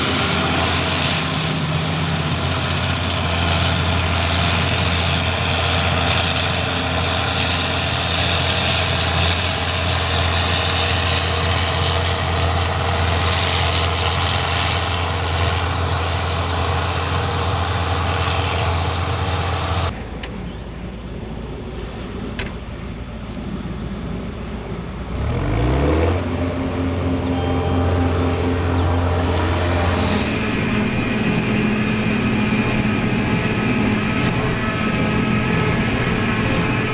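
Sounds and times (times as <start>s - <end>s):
engine revving: 0.0s - 20.0s, 25.0s - 36.9s
farm machinery engine running: 0.0s - 36.9s
low engine rumble: 0.0s - 36.9s.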